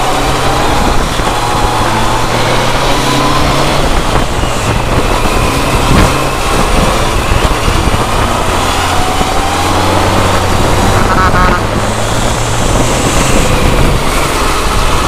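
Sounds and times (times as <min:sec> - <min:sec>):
motorcycle engine running: 0:00.0 - 0:15.0
wind rush: 0:00.0 - 0:15.0.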